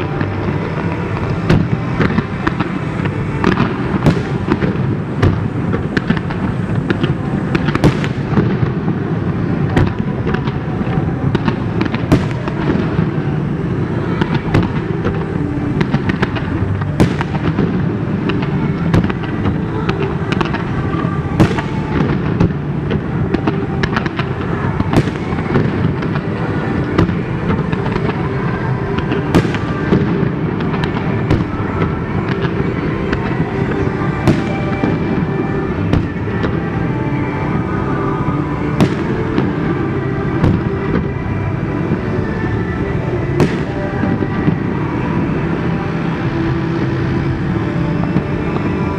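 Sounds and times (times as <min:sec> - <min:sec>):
loud firework bangs: 0:00.0 - 0:42.1, 0:43.0 - 0:48.9.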